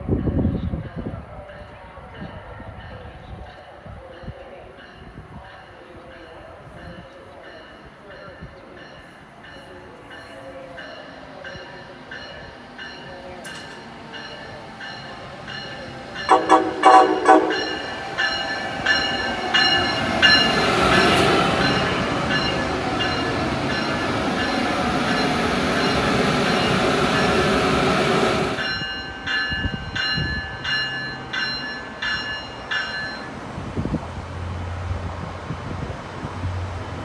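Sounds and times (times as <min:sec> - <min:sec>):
train running and wheel noise: 0:00.0 - 0:37.0
locomotive bell ringing: 0:01.6 - 0:33.4.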